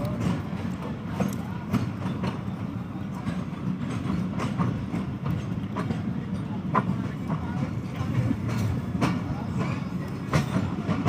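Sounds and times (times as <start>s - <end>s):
train coaches rumbling on track: 0.0s - 11.0s
wheels clicking over rail joints: 0.0s - 11.0s.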